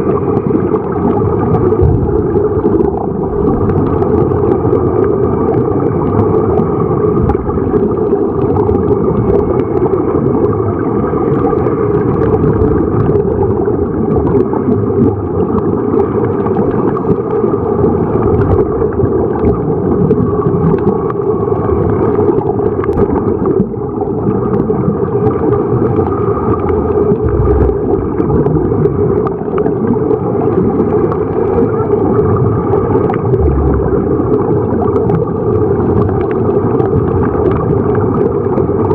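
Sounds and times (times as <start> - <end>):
air bubbling and gurgling: 0.0 - 38.9
low underwater rumble: 0.0 - 38.9.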